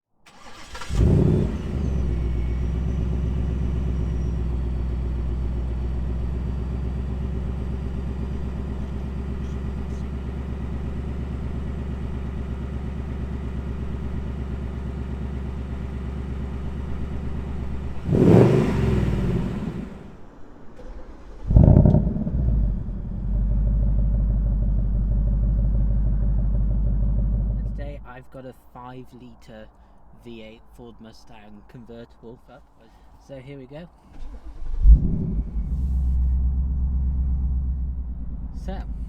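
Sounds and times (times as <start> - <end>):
car engine starting and idling: 0.2 - 28.1, 34.0 - 39.0
engine throttle blip: 0.3 - 20.2, 20.8 - 28.0, 34.1 - 39.0.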